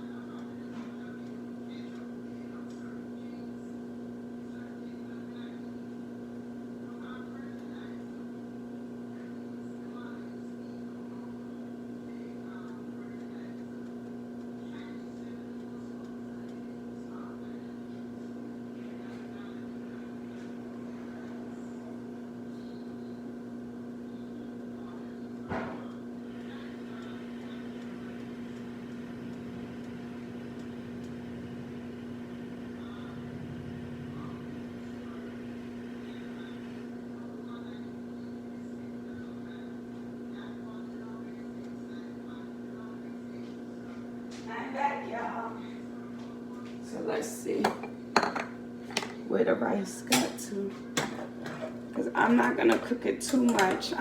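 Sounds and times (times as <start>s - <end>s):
appliance fan humming: 0.0s - 54.0s.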